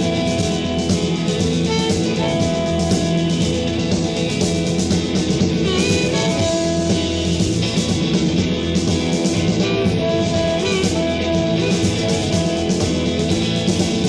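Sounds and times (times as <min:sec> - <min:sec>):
bass guitar: 0:00.0 - 0:14.0
drum kit: 0:00.0 - 0:14.0
lead guitar bending notes: 0:00.0 - 0:14.0.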